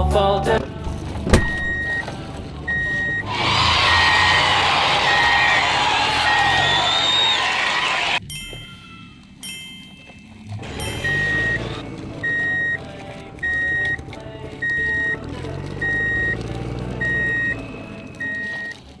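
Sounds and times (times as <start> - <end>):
low engine rumble: 0.0 - 19.0
truck reversing alarm beeping: 0.6 - 19.0.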